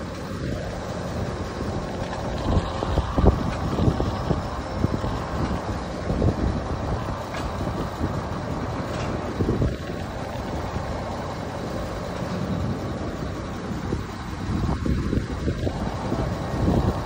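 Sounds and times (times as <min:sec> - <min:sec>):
diesel engine running: 0:00.0 - 0:17.0
wind buffeting microphone: 0:00.0 - 0:17.0.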